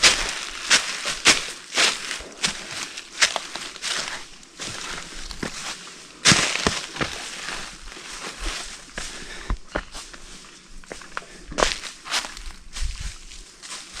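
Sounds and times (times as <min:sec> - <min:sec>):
footsteps crunching on forest floor: 0:00.0 - 0:14.0.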